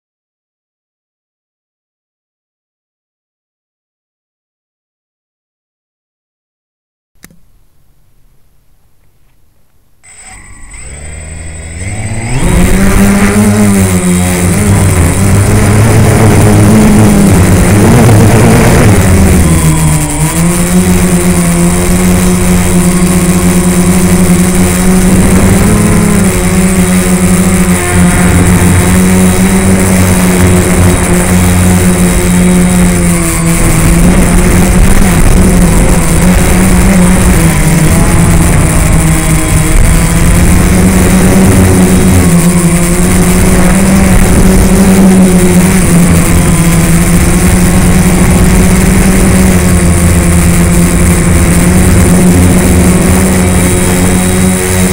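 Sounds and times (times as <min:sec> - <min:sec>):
drone propellers buzzing: 0:10.0 - 0:54.9.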